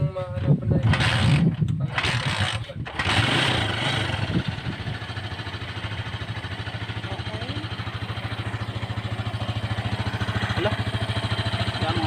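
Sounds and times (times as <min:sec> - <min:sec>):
motorcycle engine idling: 0:02.0 - 0:12.0.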